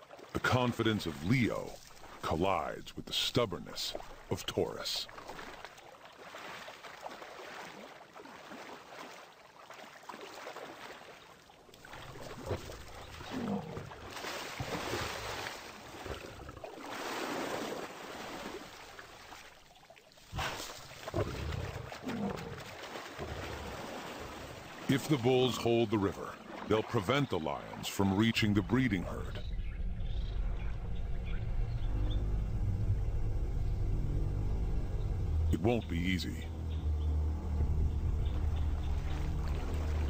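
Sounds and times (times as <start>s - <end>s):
animals splashing through water: 0.0s - 40.0s.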